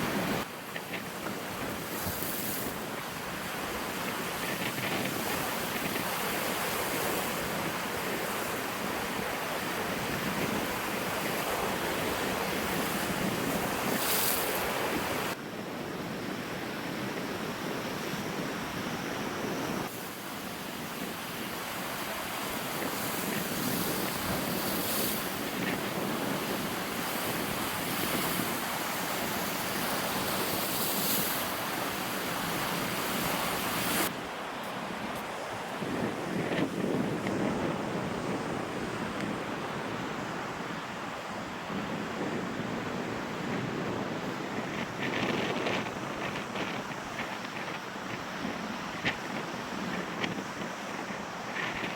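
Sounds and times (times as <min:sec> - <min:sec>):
waves washing onto shore: 0:00.0 - 0:51.9
wind buffeting microphone: 0:00.0 - 0:51.9.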